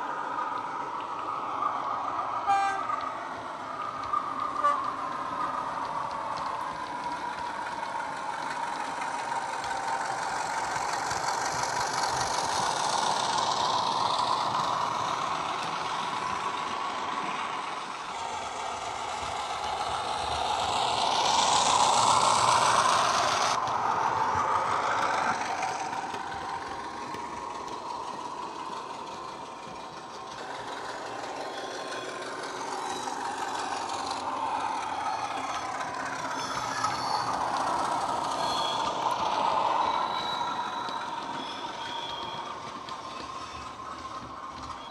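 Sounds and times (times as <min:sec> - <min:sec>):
model locomotive diesel engine sound: 0:00.0 - 0:44.9.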